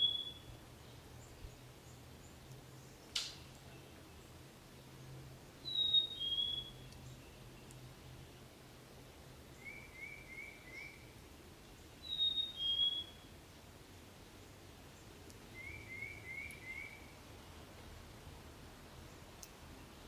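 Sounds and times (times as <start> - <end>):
faint background noise: 0.0 - 20.0
songbirds singing: 0.0 - 20.0.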